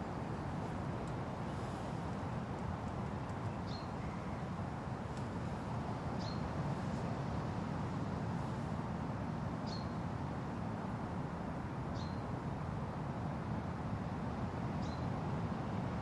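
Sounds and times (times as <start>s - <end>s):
wind rustling through trees: 0.0s - 16.0s.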